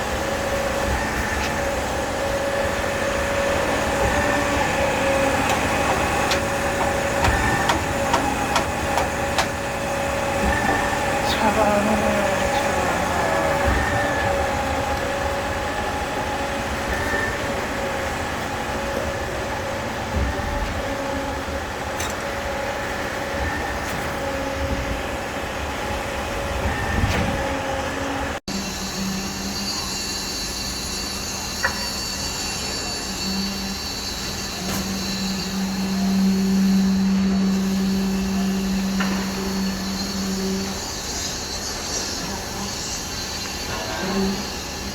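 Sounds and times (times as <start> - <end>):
pump truck mechanical drone: 0.0 - 44.9.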